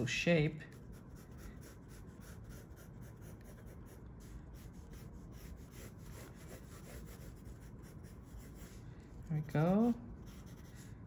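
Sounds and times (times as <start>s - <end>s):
pencil scratching on paper: 0.7s - 11.0s.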